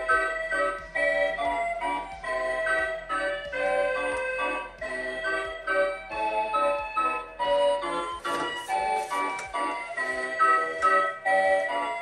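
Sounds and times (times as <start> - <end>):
organ tune: 0.0 - 12.0.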